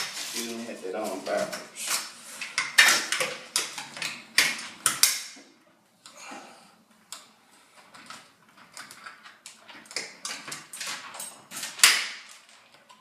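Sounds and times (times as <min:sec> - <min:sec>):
window blind parts clicking and rattling: 0:00.0 - 0:05.4, 0:07.0 - 0:13.0.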